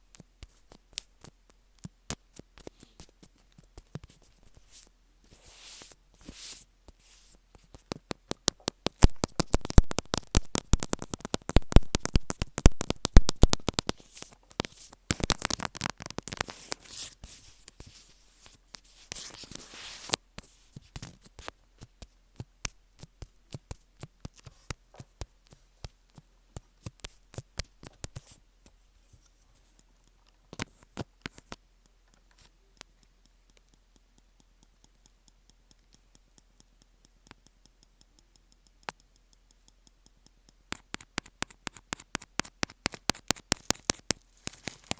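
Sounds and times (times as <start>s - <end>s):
tapping and scratching on earphones: 0.0s - 44.9s.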